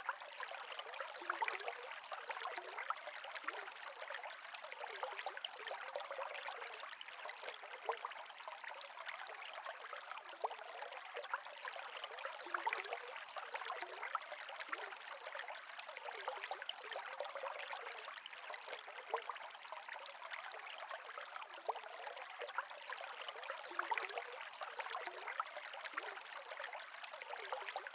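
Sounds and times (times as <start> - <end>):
aquarium water bubbling: 0.0 - 27.9.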